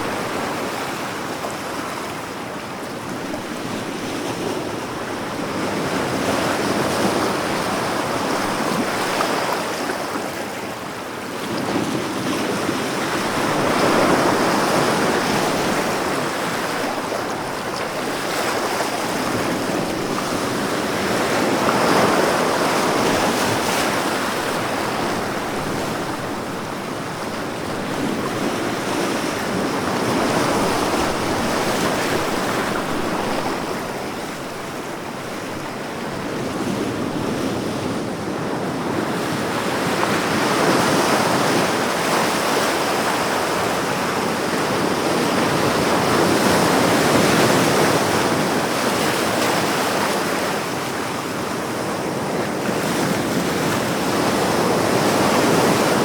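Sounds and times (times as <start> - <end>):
breaking ocean waves: 0.0 - 56.0.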